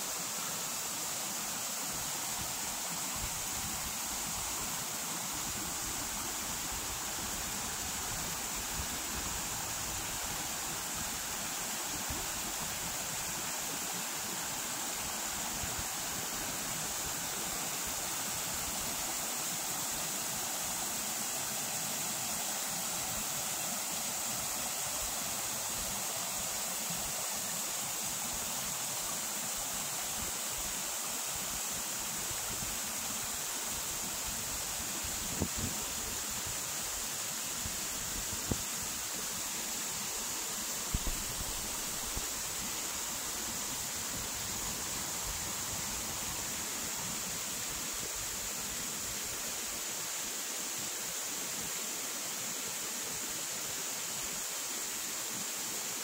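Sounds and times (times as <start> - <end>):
creek rushing over rocks: 0.0 - 56.0.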